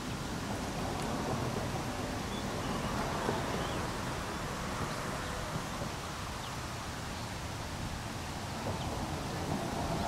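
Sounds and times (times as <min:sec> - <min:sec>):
low rushing wind: 0:00.0 - 0:10.0.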